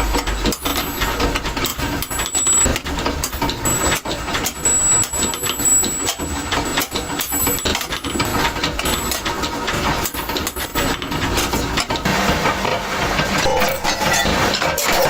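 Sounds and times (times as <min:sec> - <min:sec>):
steady mechanical noise: 0:00.0 - 0:15.0.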